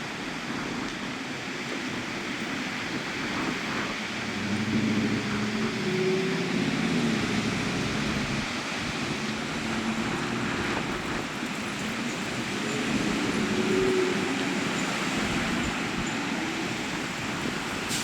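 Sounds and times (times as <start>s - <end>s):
storm wind and rain: 0.0s - 18.0s
passing traffic engine hum: 1.3s - 18.0s.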